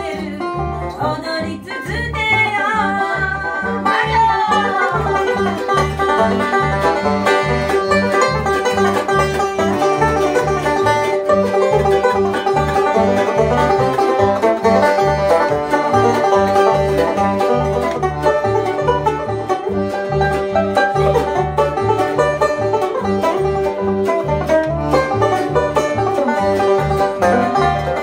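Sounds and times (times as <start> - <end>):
accordion chords: 0.0 - 28.0
banjo picking fast rolls: 0.0 - 28.0
guitar: 0.0 - 28.0
upright bass: 0.0 - 28.0.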